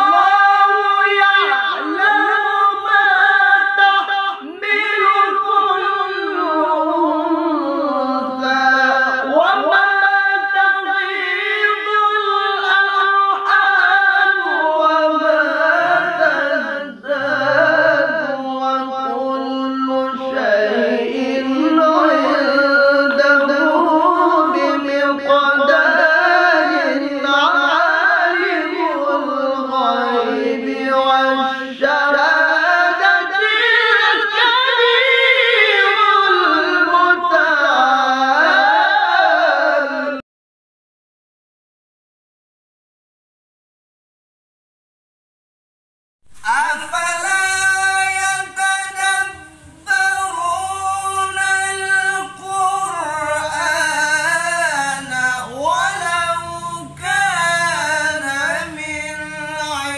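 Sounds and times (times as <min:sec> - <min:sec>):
two men singing a chant: 0:00.0 - 0:40.2, 0:46.4 - 0:59.9.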